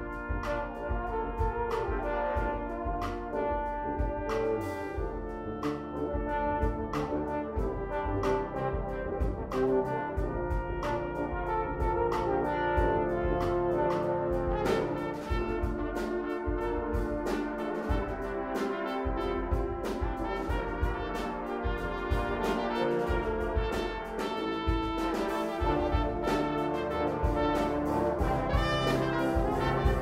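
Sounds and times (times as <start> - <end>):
brass choir sustained chords: 0.0 - 30.0
deep bass: 0.0 - 30.0
steady percussive beat: 0.0 - 30.0.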